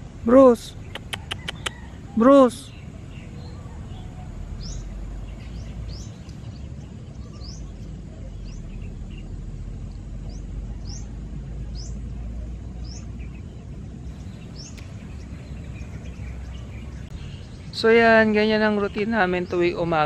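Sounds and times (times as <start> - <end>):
birds chirping: 0.0 - 20.0
low outdoor rumble: 0.0 - 20.0.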